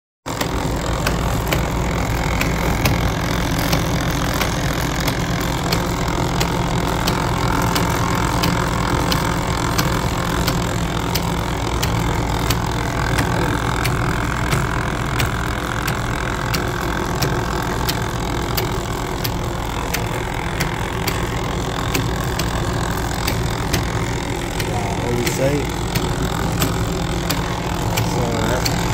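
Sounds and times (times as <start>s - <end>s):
machine whirring and humming: 0.3s - 28.9s.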